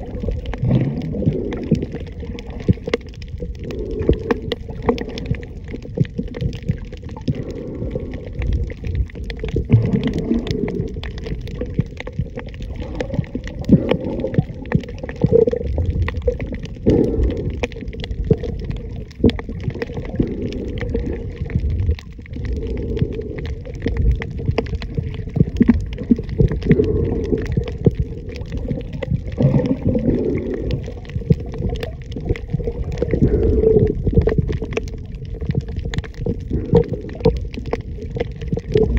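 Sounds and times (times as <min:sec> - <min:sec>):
small clicks and crackles: 0:00.0 - 0:38.9
underwater gurgling: 0:00.0 - 0:38.9.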